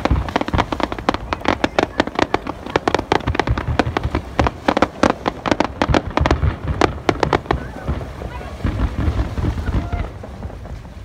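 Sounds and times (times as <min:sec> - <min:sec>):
fireworks bursts and crackle: 0:00.0 - 0:11.0.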